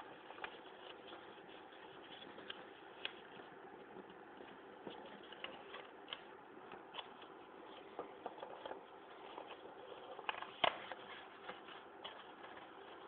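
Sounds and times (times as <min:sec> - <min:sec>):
faint steady hiss: 0:00.0 - 0:13.0
paper rustling and crackling: 0:00.0 - 0:13.0.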